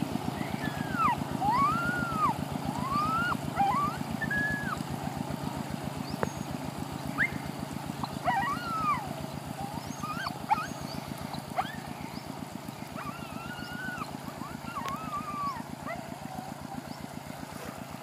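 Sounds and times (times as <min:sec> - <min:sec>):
single-cylinder engine running: 0:00.0 - 0:18.0.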